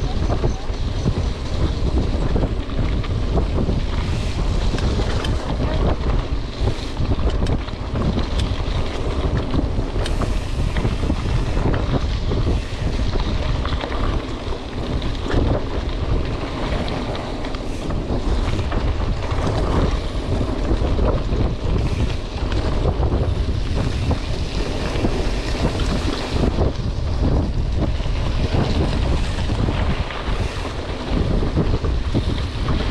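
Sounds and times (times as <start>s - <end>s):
bike tyres crunching on gravel: 0.0s - 32.9s
stones rattling and ticking: 0.0s - 32.9s
wind buffeting microphone: 0.0s - 32.9s.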